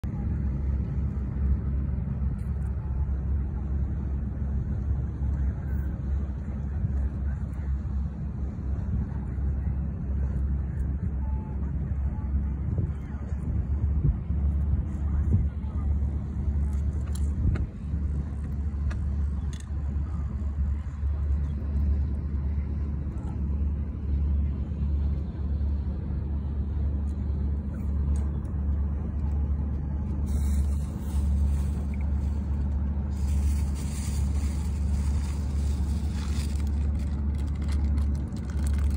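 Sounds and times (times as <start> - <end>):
low rumble: 0.0 - 38.9.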